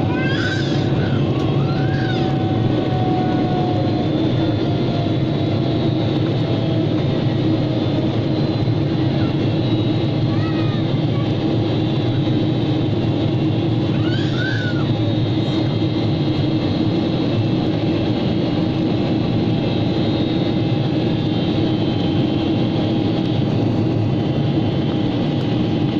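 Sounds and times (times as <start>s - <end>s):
constant hum: 0.0s - 25.9s
jet cabin engine and airflow noise: 0.0s - 25.9s.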